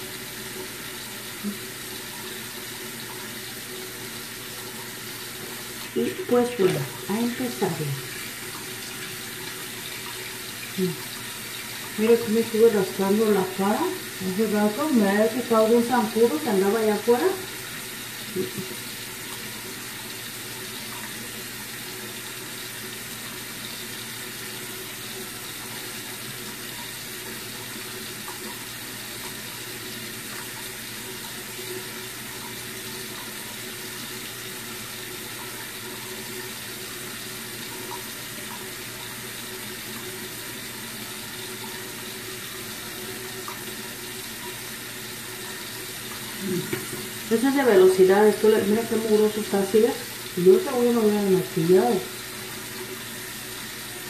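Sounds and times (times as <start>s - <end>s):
electric cleansing brush hum: 0.0s - 54.0s
tap water running into sink: 0.0s - 54.0s.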